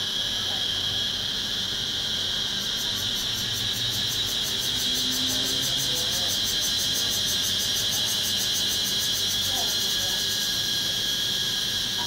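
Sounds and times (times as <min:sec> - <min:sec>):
cicadas calling: 0:00.0 - 0:12.0.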